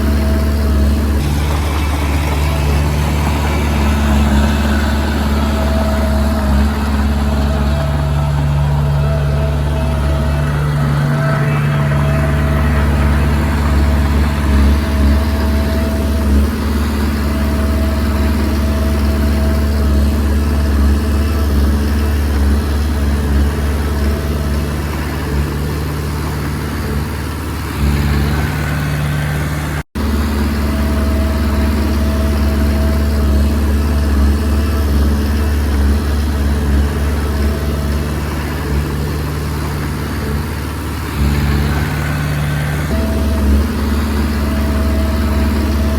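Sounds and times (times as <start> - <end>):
bulldozer diesel engine running: 0.0 - 45.9
thin whine: 0.0 - 45.9.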